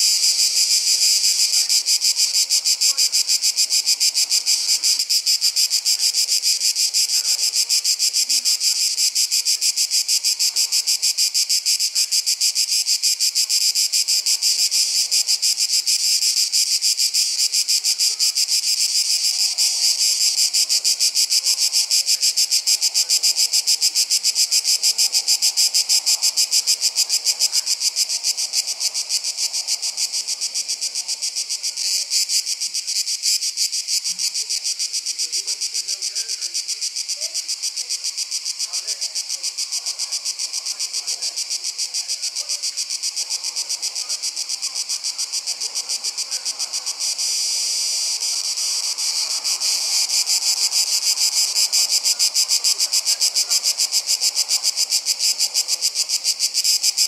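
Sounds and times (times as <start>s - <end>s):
insect chorus pulsing shrill: 0.0s - 57.0s.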